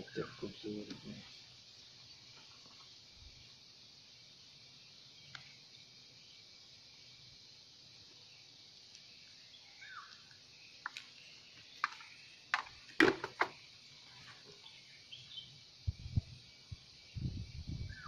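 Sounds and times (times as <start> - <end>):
faint bird chirp: 0.0 - 7.2, 8.1 - 12.5, 13.6 - 18.0
steady hiss: 0.0 - 18.0.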